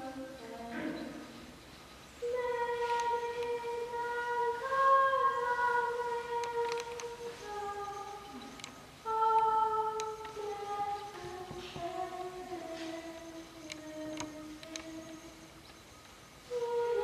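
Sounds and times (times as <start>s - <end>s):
woman singing slow melody: 2.2s - 15.6s, 16.4s - 17.0s.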